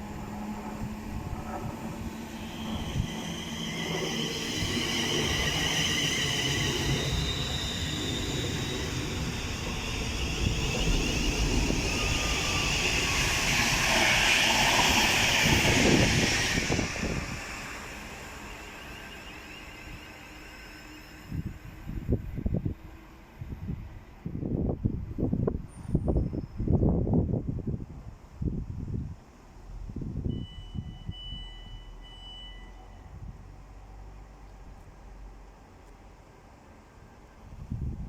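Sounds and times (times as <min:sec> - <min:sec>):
train rumbling with high whine: 0:00.0 - 0:38.0.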